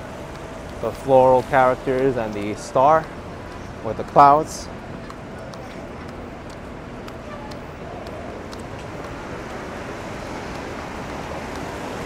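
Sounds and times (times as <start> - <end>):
traffic on wet pavement: 0.0 - 12.0.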